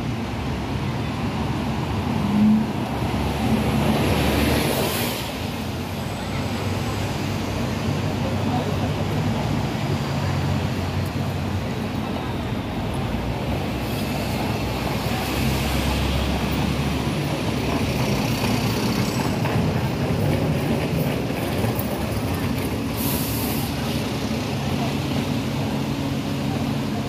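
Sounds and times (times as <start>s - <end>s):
passers-by: 0.0s - 27.0s
traffic rumble: 0.0s - 27.0s.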